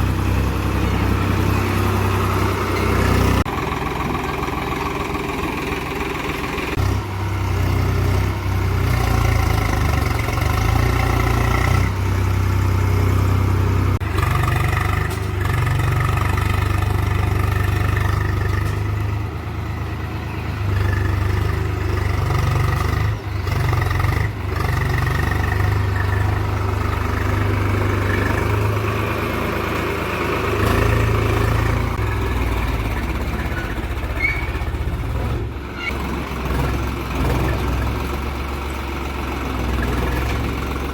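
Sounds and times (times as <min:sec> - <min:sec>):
tractor diesel engine drone: 0:00.0 - 0:40.9.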